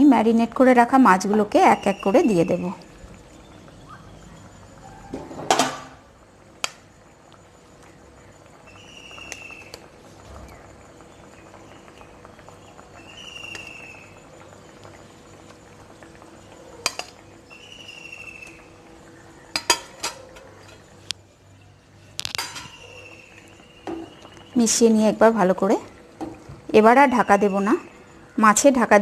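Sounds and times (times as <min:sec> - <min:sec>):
gravy simmering: 0:00.1 - 0:29.0.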